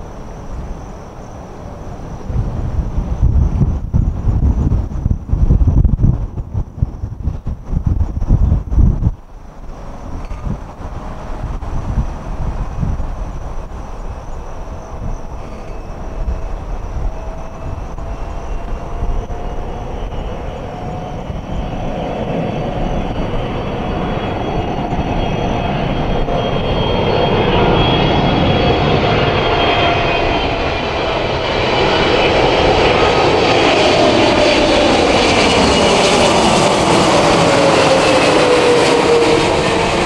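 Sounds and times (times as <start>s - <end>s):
high engine whine: 0.0s - 40.0s
jetliner engines approaching: 0.0s - 40.0s.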